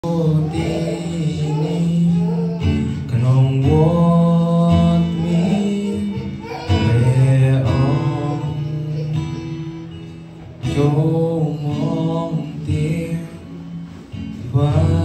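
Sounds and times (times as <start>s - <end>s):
guitar chords strummed: 0.0s - 15.0s
man singing: 0.0s - 15.0s.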